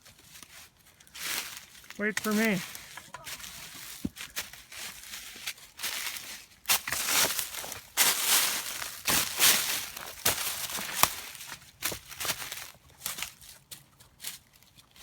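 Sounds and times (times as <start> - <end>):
footsteps crunching on gravel: 0.1 - 14.6.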